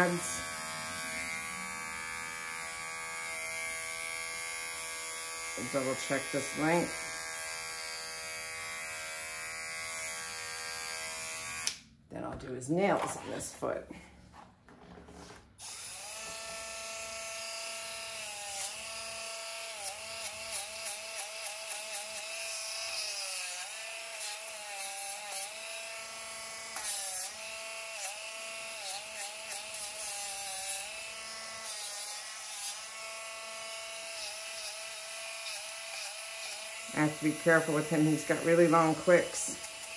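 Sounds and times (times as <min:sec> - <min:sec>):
rotary nail grinder whining: 0:00.0 - 0:11.8, 0:15.6 - 0:39.9.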